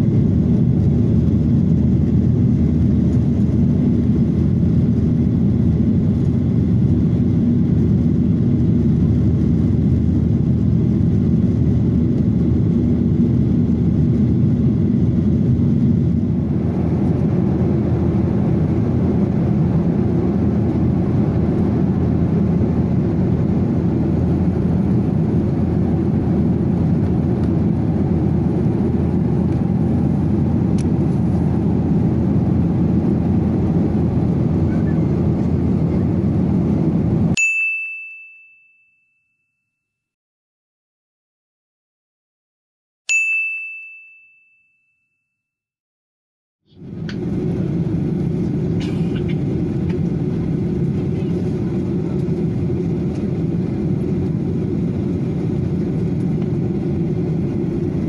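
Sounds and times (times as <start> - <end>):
jet engine drone: 0.0 - 37.4, 46.7 - 58.0.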